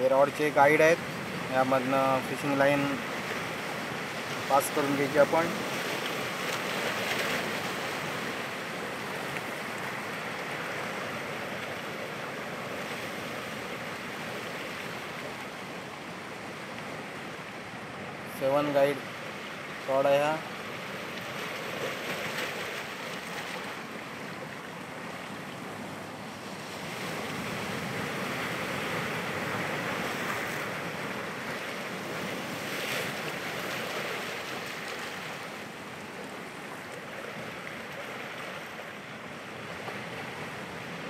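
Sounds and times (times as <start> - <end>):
surf washing onto rocks: 0.0 - 17.2, 18.5 - 24.3, 26.4 - 41.0.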